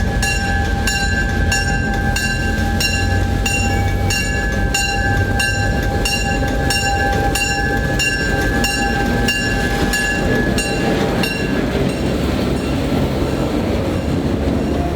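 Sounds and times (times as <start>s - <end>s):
locomotive bell ringing: 0.0s - 14.9s
train rolling on track: 0.0s - 14.9s.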